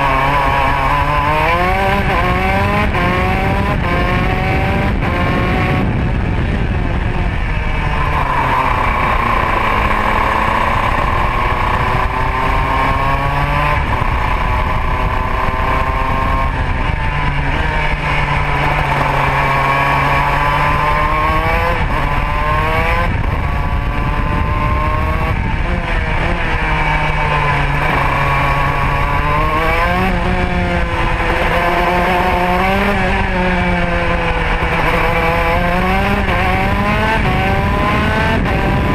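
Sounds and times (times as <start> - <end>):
kart two-stroke engine revving: 0.0 - 38.9.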